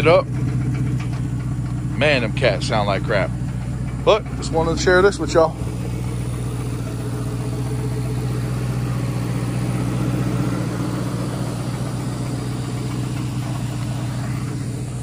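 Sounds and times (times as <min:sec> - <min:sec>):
car engine idling: 0:00.0 - 0:15.0
exhaust rattle: 0:00.0 - 0:15.0.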